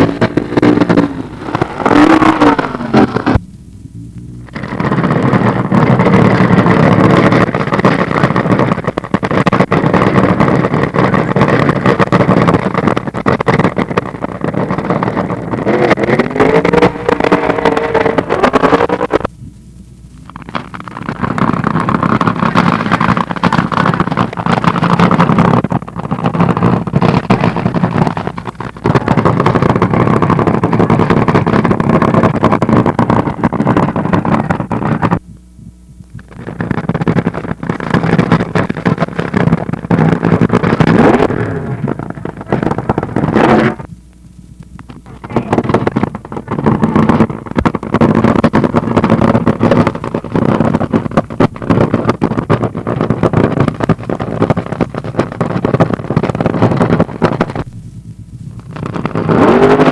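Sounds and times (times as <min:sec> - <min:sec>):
drag racing engines at full throttle: 0:00.0 - 0:59.9.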